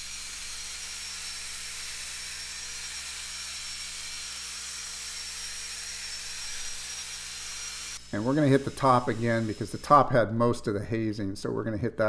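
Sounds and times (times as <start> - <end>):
cordless drill buffing glass: 0.0 - 10.4.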